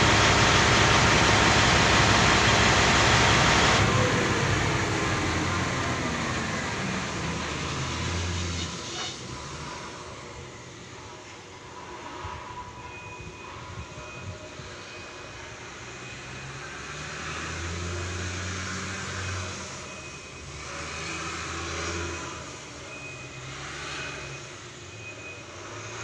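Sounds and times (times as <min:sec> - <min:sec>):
heavy engine humming: 0:00.0 - 0:25.6.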